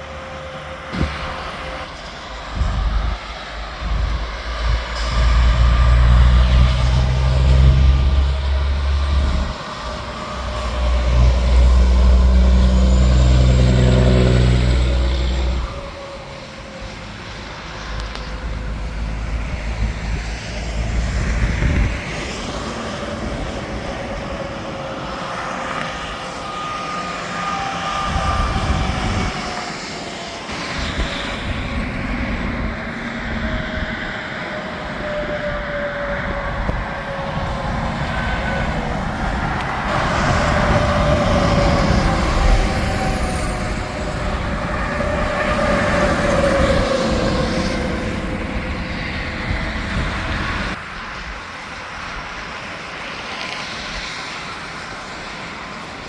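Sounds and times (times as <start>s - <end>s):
heavy truck passing: 0.0s - 35.5s, 36.1s - 50.9s
vehicles passing with tyre noise: 0.0s - 56.0s.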